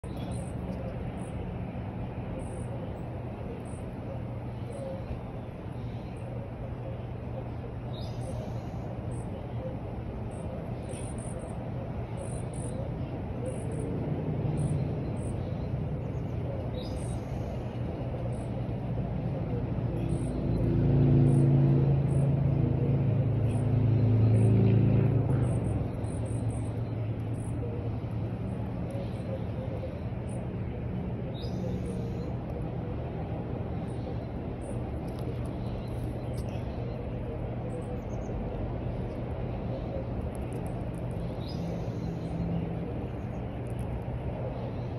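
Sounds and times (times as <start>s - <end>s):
constant rumble: 0.0s - 44.9s
low engine hum: 0.0s - 44.9s.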